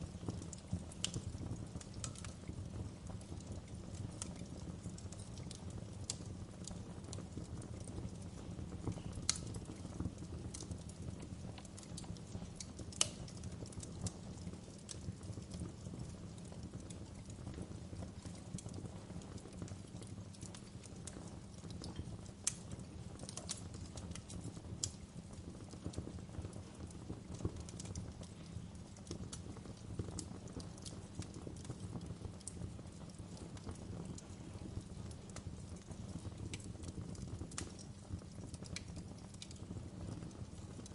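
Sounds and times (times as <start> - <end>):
fire popping and snapping: 0.0 - 40.9
fireplace rumble: 0.0 - 40.9.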